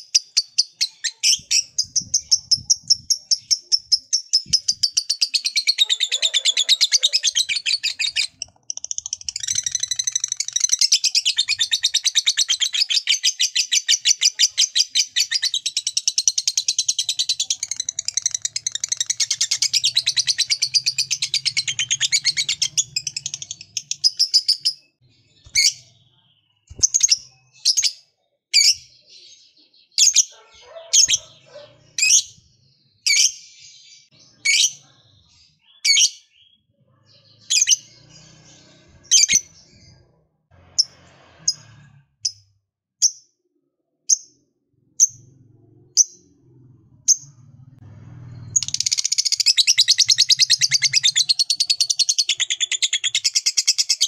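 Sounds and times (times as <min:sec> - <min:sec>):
bird sharp chirps: 0:00.0 - 0:40.2, 0:47.1 - 0:54.0.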